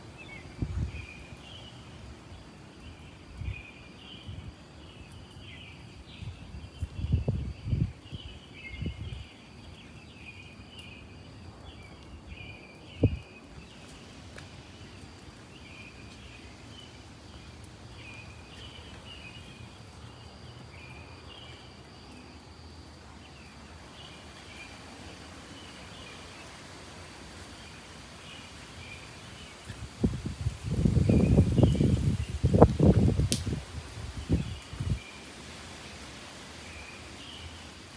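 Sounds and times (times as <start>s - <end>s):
rain falling: 0.0s - 37.9s
small birds chirping: 0.2s - 26.6s, 27.3s - 37.9s.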